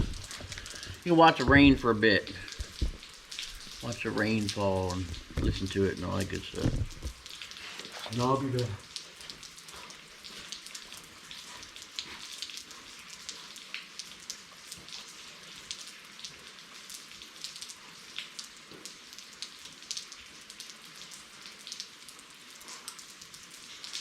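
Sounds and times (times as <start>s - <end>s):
raindrop impacts: 0.0s - 22.1s
steady rainfall hiss: 0.0s - 24.0s.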